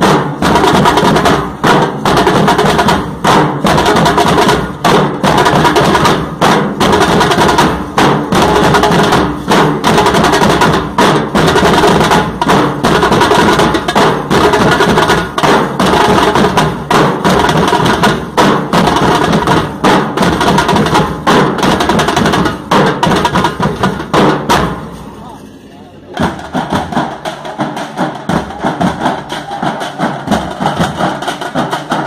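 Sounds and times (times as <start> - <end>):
dhol drums beaten fast: 0.0 - 25.0, 26.2 - 32.0.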